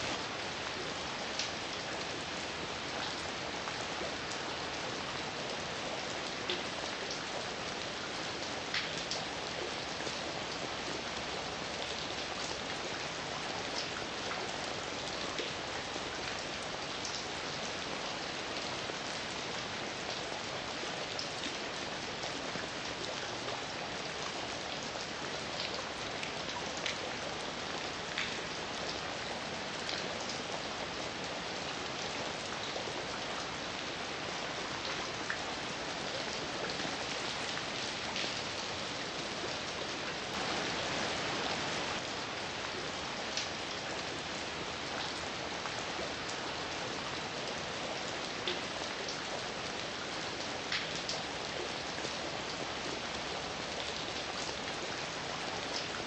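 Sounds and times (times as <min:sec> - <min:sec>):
heavy rain falling: 0:00.0 - 0:54.7.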